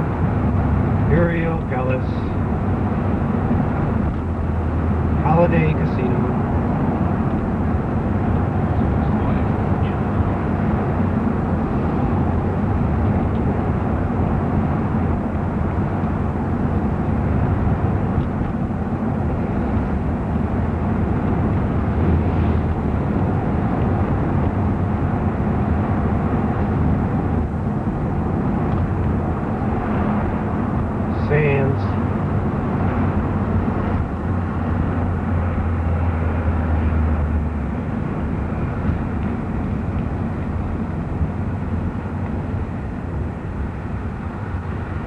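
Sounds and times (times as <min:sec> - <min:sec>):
car engine and tyres droning: 0:00.0 - 0:45.0
surrounding traffic: 0:00.0 - 0:45.0.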